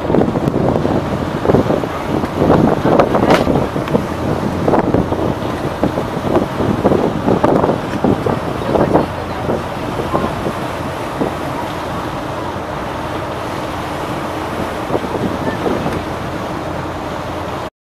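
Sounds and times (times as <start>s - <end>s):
wind on microphone: 0.0s - 17.6s
ship running: 0.0s - 17.7s
water beneath ship: 0.0s - 17.7s.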